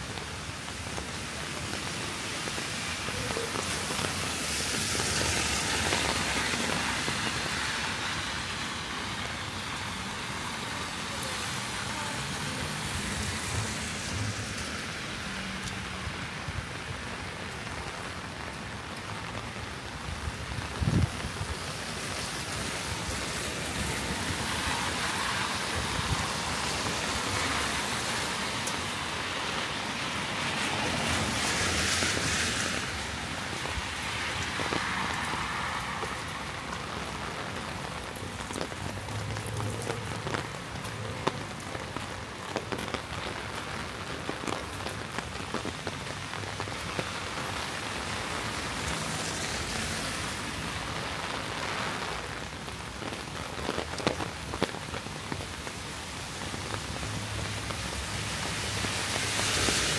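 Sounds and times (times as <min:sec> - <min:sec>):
rain falling: 0:00.0 - 0:59.9
raindrops ticking: 0:00.0 - 0:59.9.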